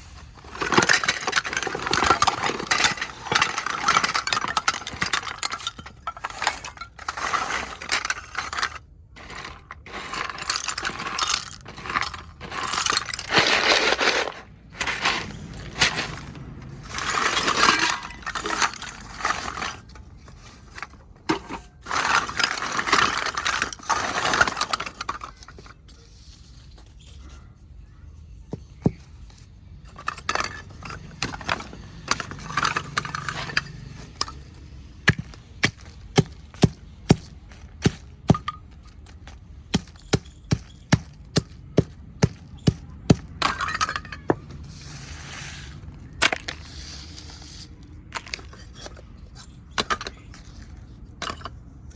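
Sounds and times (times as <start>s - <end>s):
clay crunching and crumbling: 0.0s - 27.2s, 28.5s - 51.9s.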